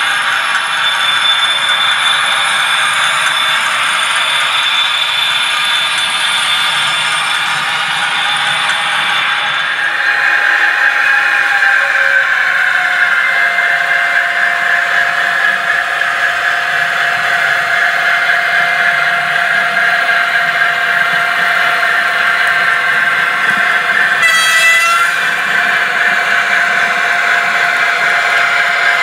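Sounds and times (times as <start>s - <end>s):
model locomotive drone and whine: 0.0s - 29.0s.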